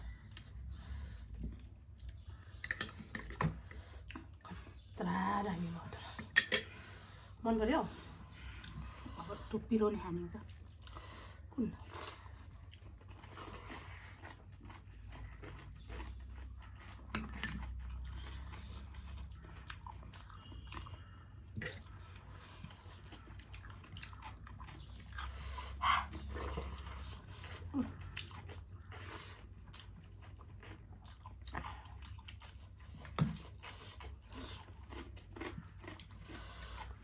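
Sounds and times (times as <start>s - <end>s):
chewing and crunching food: 0.0s - 37.0s.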